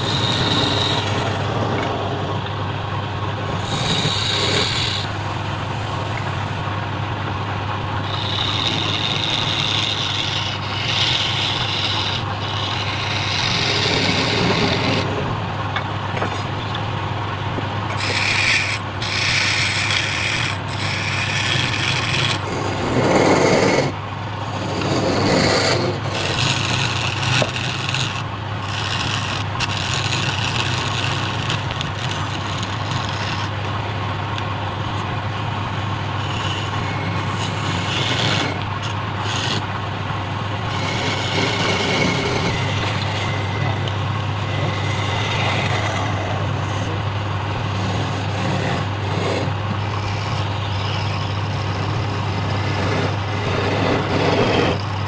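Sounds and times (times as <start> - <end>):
turning tool scraping wood: 0.0 - 2.4, 3.4 - 6.8, 7.9 - 15.4, 16.2 - 16.7, 17.9 - 35.1, 35.9 - 55.0
wood lathe humming: 0.0 - 55.0.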